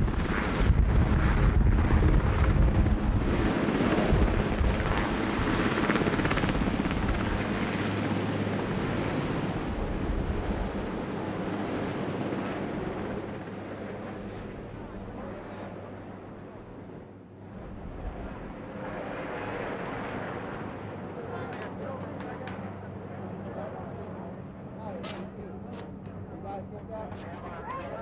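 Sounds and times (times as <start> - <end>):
helicopter rotors and turbines: 0.0 - 28.0.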